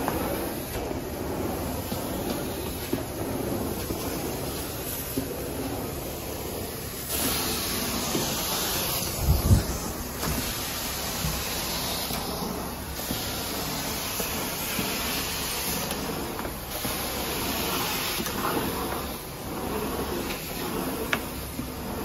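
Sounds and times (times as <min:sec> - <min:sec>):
carpet cleaner vacuum hissing: 0:00.0 - 0:22.0.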